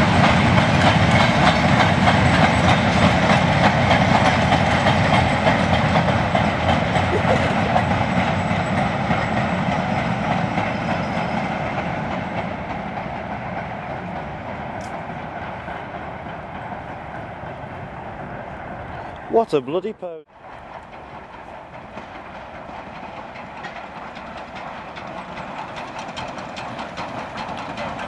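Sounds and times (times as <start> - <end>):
train wheels clattering over rail joints: 0.0 - 7.1, 7.8 - 18.1, 20.4 - 28.0.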